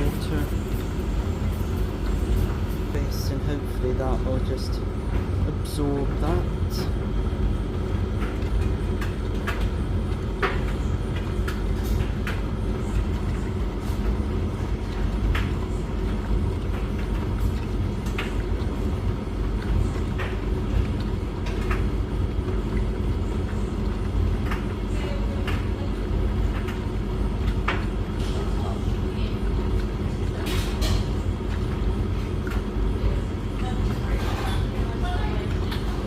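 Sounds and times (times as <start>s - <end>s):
washing machine and dryer rumble: 0.0s - 36.0s.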